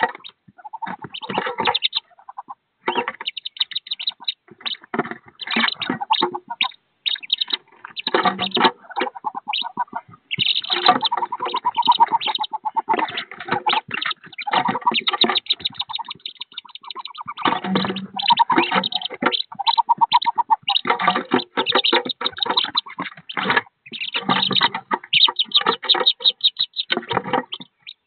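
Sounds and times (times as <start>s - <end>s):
ducklings peeping: 0.0s - 28.0s.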